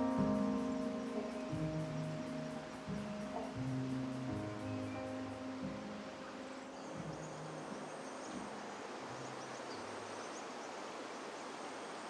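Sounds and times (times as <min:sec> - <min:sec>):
low sustained music notes: 0:00.0 - 0:11.5
faint high insect chirps: 0:00.0 - 0:12.0
wind through leaves: 0:00.0 - 0:12.0.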